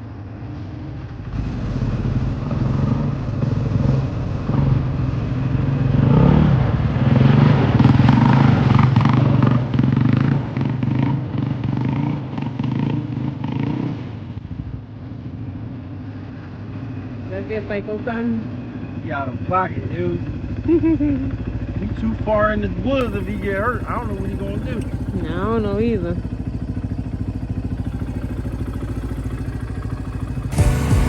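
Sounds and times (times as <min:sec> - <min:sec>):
dirt bike engine running: 0:00.0 - 0:13.8, 0:16.8 - 0:31.0.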